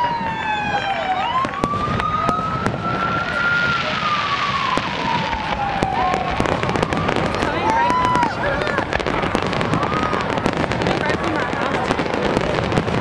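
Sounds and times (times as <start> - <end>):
siren wailing: 0.0 - 12.9
fireworks popping and crackling: 0.0 - 13.0.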